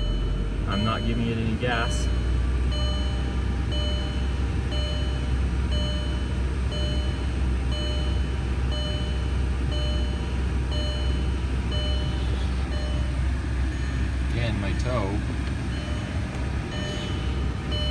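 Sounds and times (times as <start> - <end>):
car engine idling: 0.0 - 17.9
car warning chime beeping: 0.0 - 17.9.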